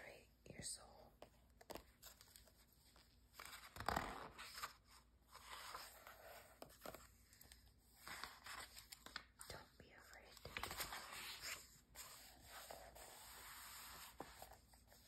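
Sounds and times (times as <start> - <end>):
soft paper rustling: 0.0 - 15.0
magazine page turning: 1.6 - 9.4, 10.3 - 15.0.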